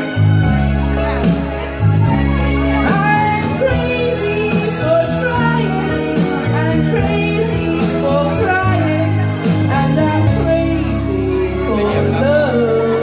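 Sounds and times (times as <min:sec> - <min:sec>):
backing music with bass: 0:00.0 - 0:13.0
woman singing: 0:02.6 - 0:13.0.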